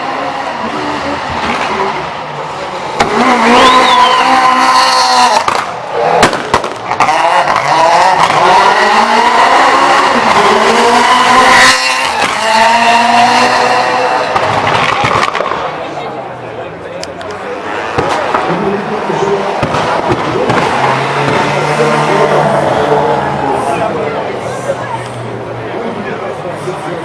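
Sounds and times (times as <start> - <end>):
exhaust bangs: 0.0 - 16.4, 17.5 - 24.4
rally car engine revving: 0.0 - 27.0.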